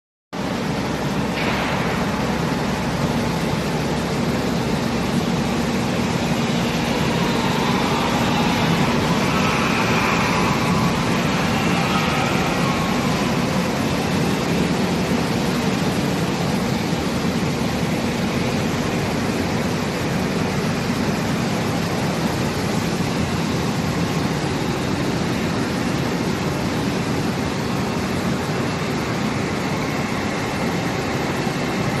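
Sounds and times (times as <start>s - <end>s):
water spraying from nozzles: 0.4s - 32.0s.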